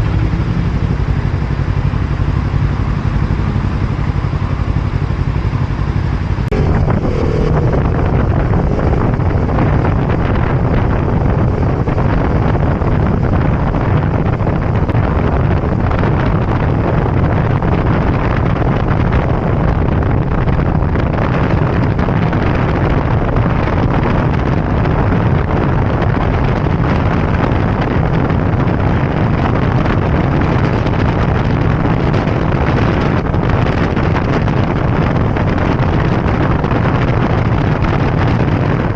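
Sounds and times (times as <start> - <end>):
motorbike engine: 0.0 - 38.9
road noise: 0.0 - 38.9
wind rushing over microphone: 0.0 - 38.9.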